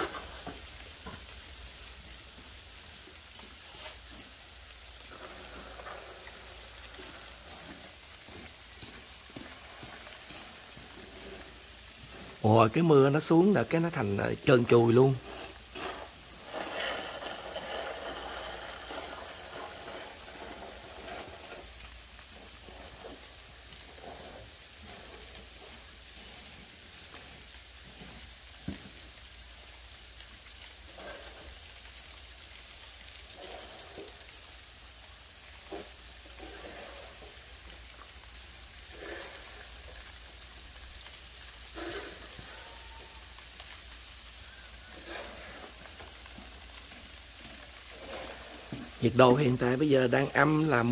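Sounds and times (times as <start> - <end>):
freezing rain and sleet pattering: 0.0 - 50.9.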